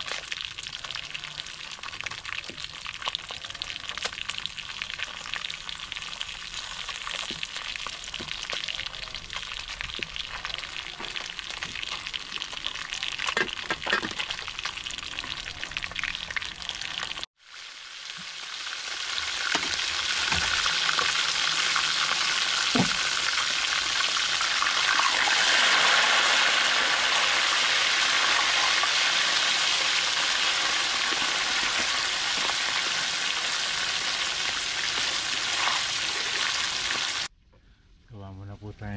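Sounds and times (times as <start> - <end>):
fish frying in hot oil: 0.0 - 37.3.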